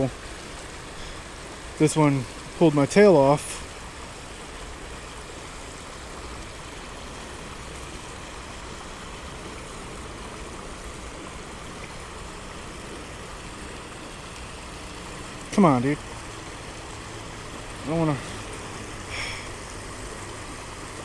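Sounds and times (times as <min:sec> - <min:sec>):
river water rushing over riffle: 0:00.0 - 0:21.0.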